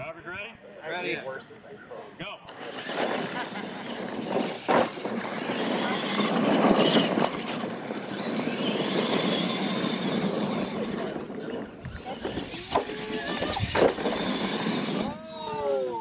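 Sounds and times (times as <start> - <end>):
tires churning dirt: 2.5 - 16.0
toy truck motors whining: 2.5 - 16.0.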